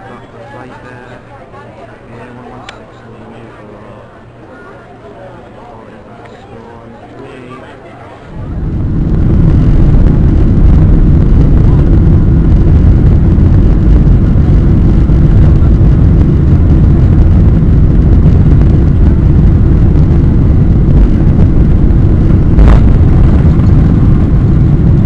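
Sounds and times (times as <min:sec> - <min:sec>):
aircraft cabin low rumble: 0:00.0 - 0:25.0.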